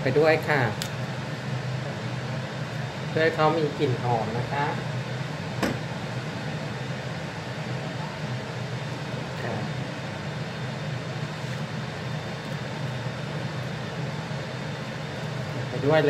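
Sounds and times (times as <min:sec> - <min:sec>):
fan whirring hum: 0:00.0 - 0:16.0.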